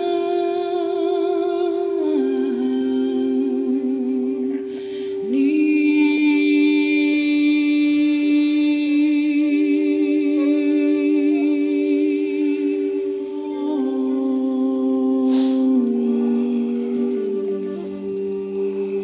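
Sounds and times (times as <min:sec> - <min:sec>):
steady sustained tone: 0:00.0 - 0:19.0
woman singing long note: 0:00.0 - 0:19.0.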